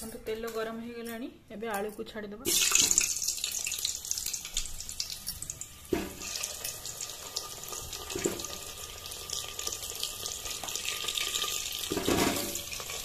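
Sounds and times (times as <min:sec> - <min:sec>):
potatoes sizzling in oil: 0:02.5 - 0:13.0.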